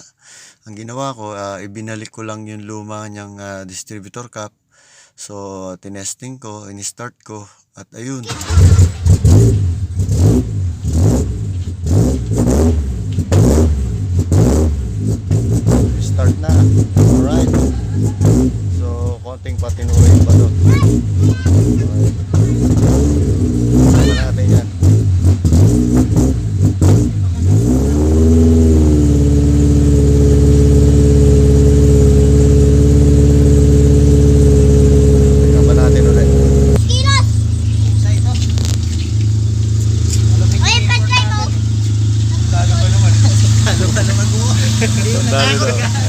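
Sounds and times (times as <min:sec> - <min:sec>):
car engine revving: 0:08.3 - 0:46.0.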